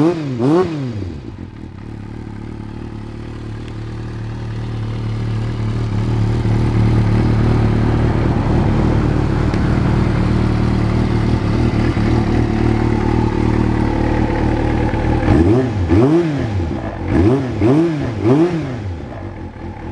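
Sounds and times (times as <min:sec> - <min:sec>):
motorcycle engine idling: 0:00.0 - 0:19.9
motorcycle engine revving: 0:00.0 - 0:19.9.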